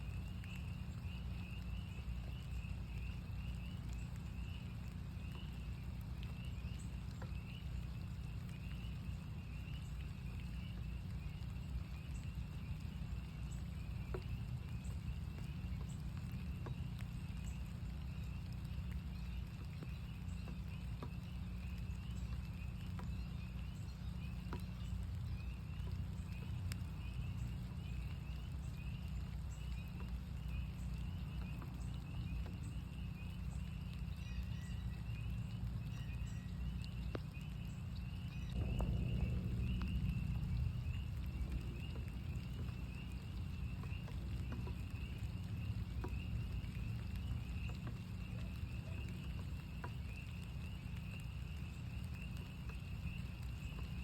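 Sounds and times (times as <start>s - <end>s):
frogs peeping: 0.0s - 54.0s
rain drips ticking: 0.0s - 54.0s
steady low rumble: 0.0s - 54.0s.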